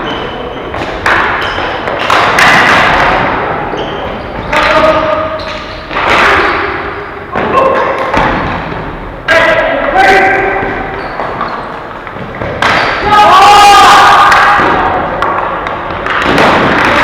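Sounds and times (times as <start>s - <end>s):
sticks and ball banging boards: 0.0s - 17.0s.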